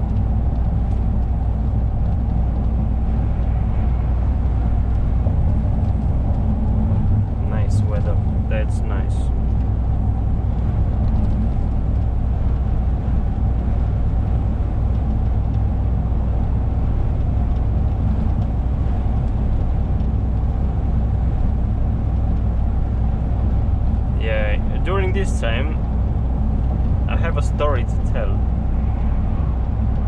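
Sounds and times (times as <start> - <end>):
lorry engine and road drone: 0.0 - 30.0.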